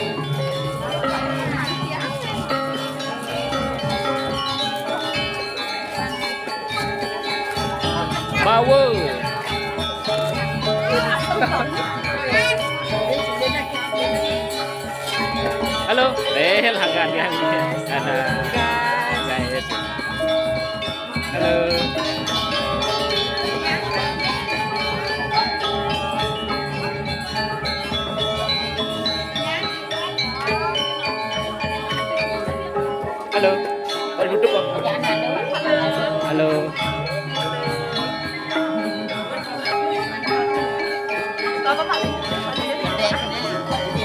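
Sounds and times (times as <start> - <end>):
gamelan metallophones ringing: 0.0 - 44.0.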